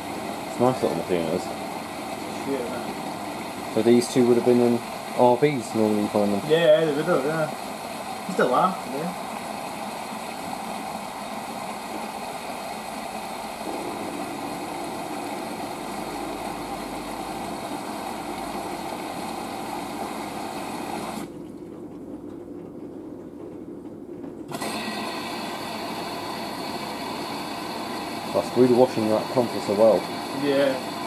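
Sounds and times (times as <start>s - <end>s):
washing machine motor running: 0.0s - 31.0s.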